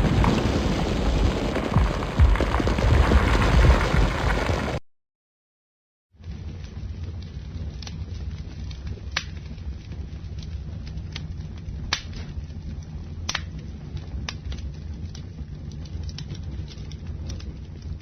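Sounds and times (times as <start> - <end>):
fire roaring and crackling: 0.0 - 4.8, 6.2 - 18.0.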